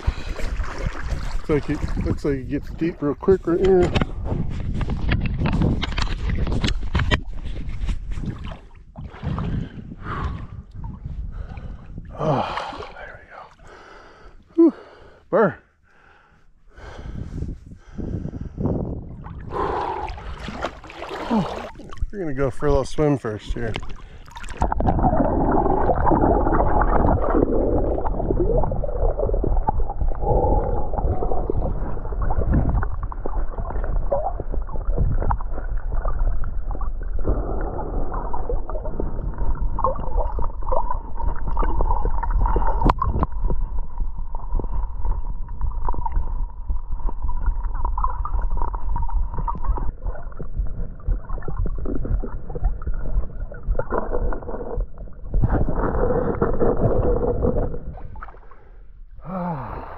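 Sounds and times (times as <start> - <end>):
muffled water sloshing and gurgling: 0.0 - 59.9.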